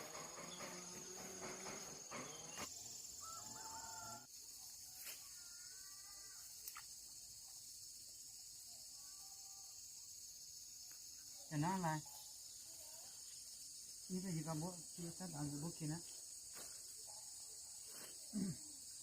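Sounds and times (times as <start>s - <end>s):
high-pitched insect drone: 0.0s - 17.1s.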